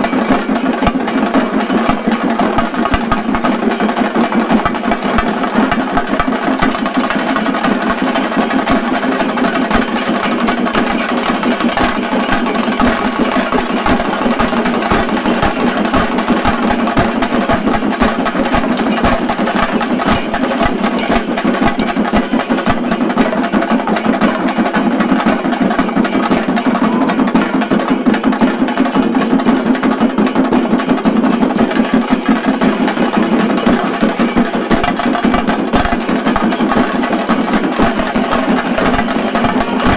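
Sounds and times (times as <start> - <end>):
fast drumming with sticks: 0.0 - 39.9.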